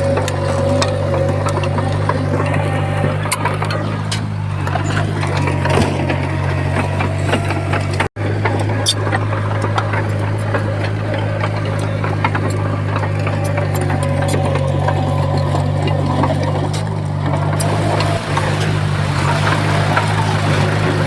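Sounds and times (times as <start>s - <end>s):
heavy diesel engine droning: 0.0s - 21.0s.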